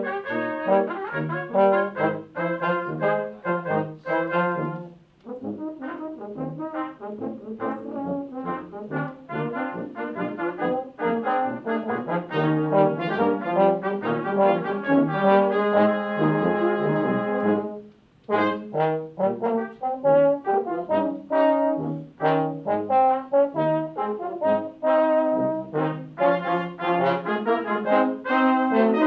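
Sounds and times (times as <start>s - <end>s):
brass ensemble playing: 0.0s - 29.0s.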